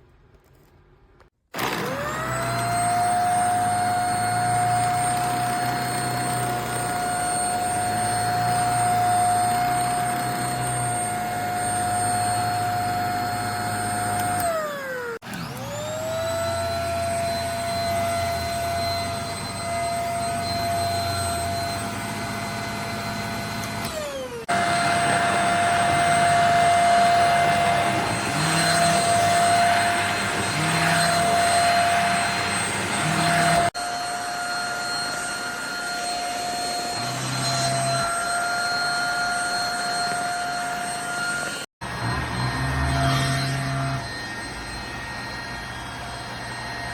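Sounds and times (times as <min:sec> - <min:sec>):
handheld vacuum motor whine: 0:01.6 - 0:46.9.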